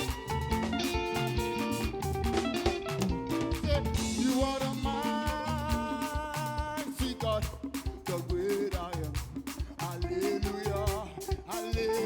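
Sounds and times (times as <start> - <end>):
drums and bass beat: 0.0 - 12.0.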